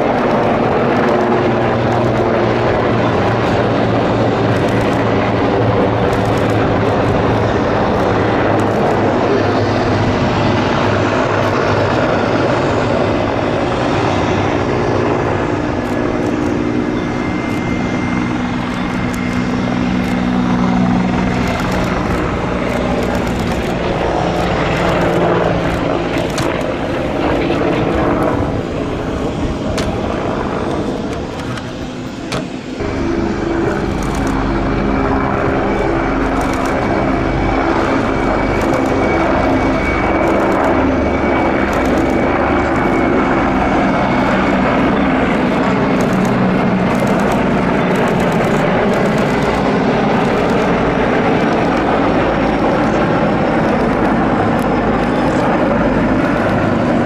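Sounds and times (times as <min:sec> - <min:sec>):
helicopters flying past: 0:00.0 - 0:57.0
high turbine whine: 0:00.0 - 0:57.0.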